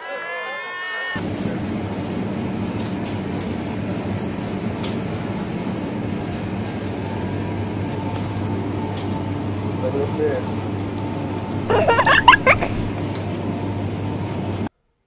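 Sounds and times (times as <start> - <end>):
refrigerator and ventilation hum: 1.2 - 14.7.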